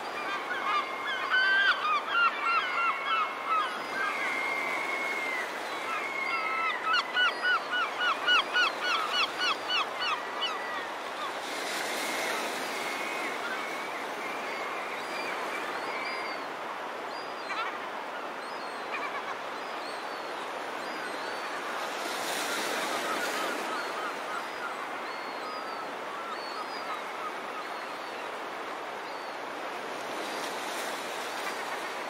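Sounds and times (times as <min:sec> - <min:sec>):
wind: 0:00.0 - 0:32.0.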